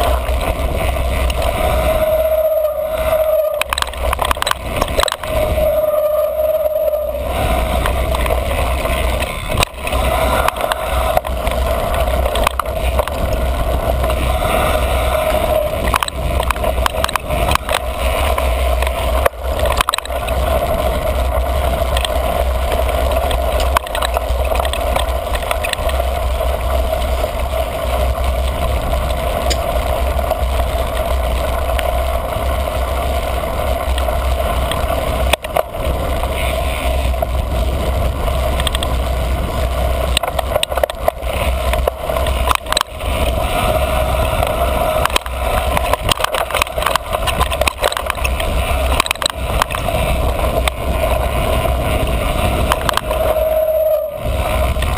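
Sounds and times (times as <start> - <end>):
bike clattering over bumps: 0.0 - 54.9
bike tyre noise on dirt trail: 0.0 - 54.9
wind rumble on microphone: 0.0 - 54.9.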